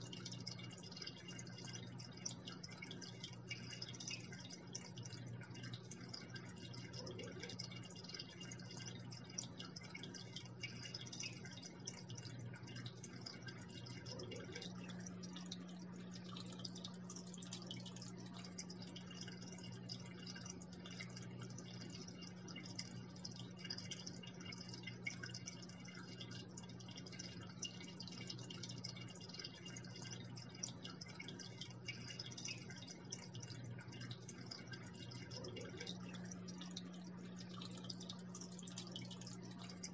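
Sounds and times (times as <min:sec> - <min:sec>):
steady low hum: 0:00.0 - 0:39.9
water trickling into aquarium: 0:00.0 - 0:39.9.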